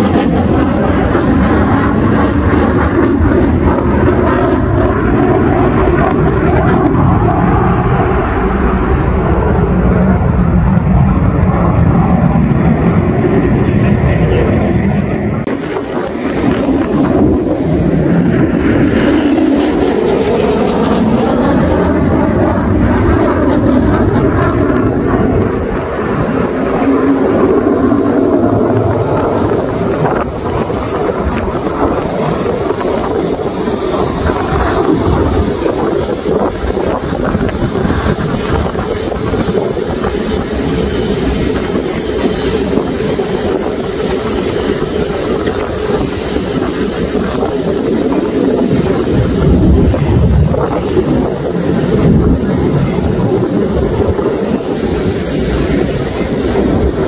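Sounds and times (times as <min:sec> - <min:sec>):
jet flying overhead: 0:00.0 - 0:57.0.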